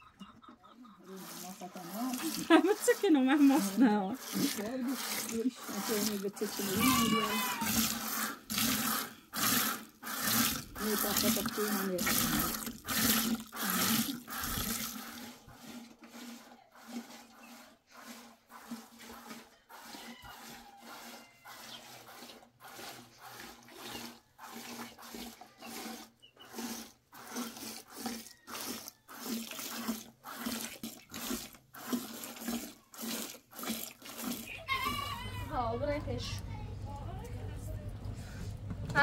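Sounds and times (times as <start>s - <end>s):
milk squirting into plastic bucket: 1.1s - 35.5s.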